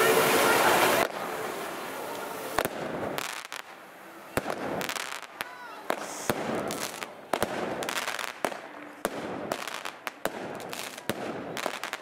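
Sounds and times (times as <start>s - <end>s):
fireworks bangs and cracks: 0.0s - 12.0s
hiss of burning pyrotechnics: 0.0s - 12.0s.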